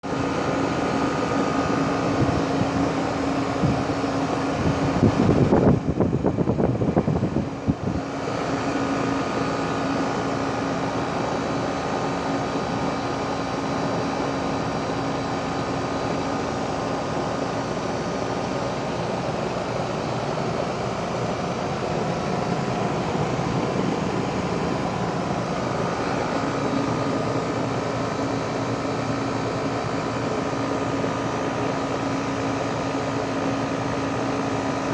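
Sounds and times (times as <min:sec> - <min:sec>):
fan noise: 0:00.0 - 0:34.9
heat pump humming: 0:00.0 - 0:34.9.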